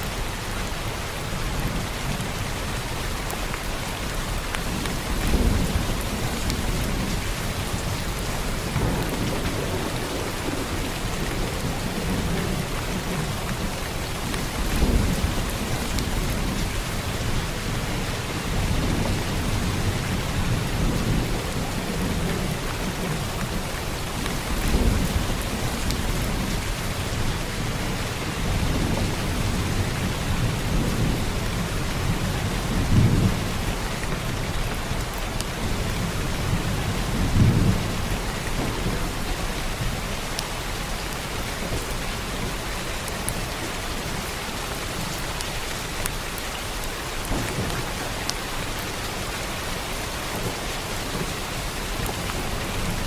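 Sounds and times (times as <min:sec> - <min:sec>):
heavy rain falling: 0:00.0 - 0:53.0
thunder rumbles: 0:04.3 - 0:53.0.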